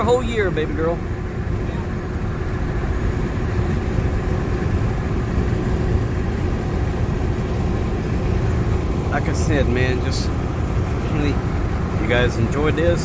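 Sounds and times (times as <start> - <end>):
car road noise: 0.0 - 13.0.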